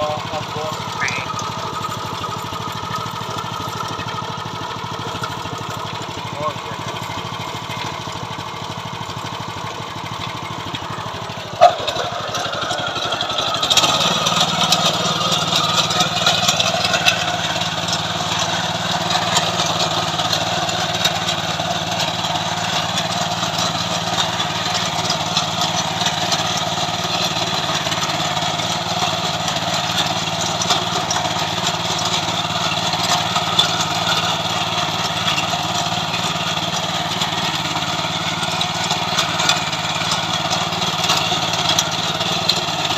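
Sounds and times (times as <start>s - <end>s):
small tiller engine running: 0.0s - 42.9s.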